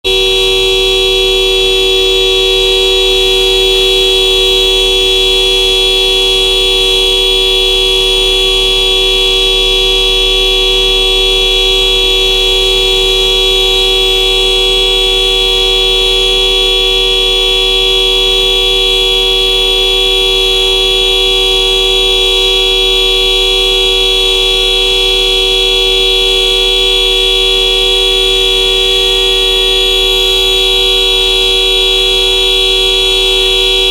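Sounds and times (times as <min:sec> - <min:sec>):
car horn honking: 0:00.0 - 0:33.9.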